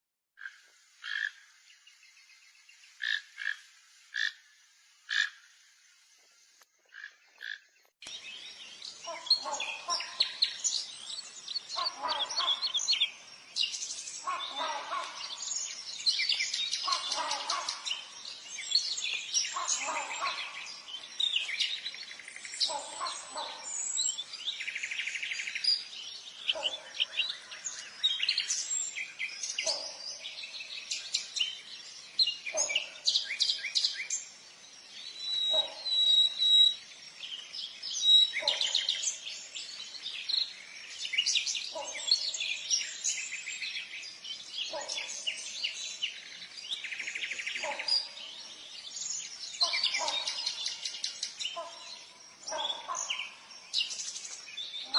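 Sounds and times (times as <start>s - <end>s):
birds chirping: 0.4s - 54.9s.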